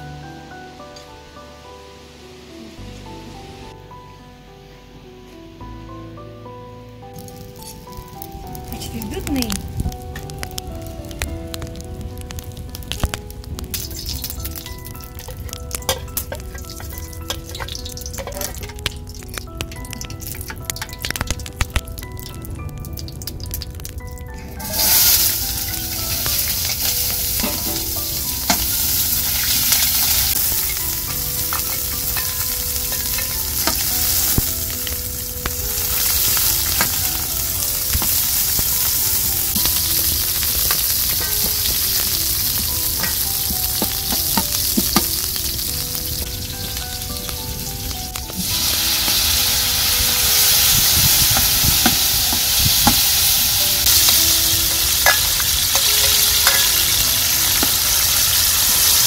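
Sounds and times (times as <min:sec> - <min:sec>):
onions sizzling in oil: 0:07.2 - 0:59.0.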